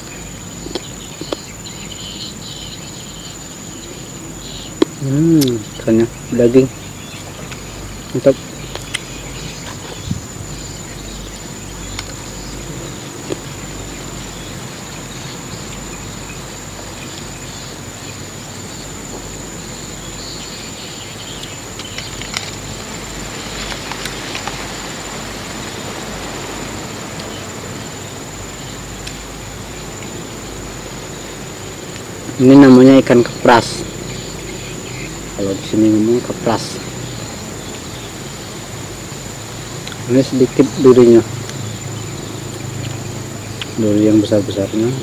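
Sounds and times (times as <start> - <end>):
high-pitched insect chorus: 0.0 - 45.0
outdoor hiss: 0.0 - 45.0.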